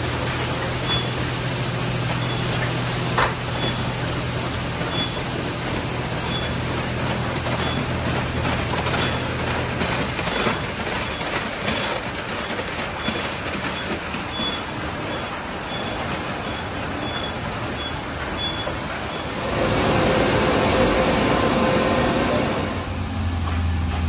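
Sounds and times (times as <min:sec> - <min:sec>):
spraying water: 0:00.0 - 0:23.2.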